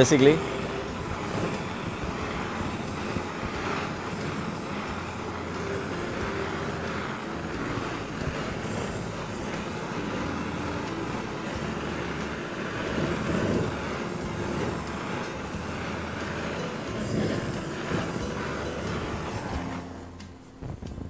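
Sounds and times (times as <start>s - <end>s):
blowtorch flame hissing: 0.0s - 21.0s.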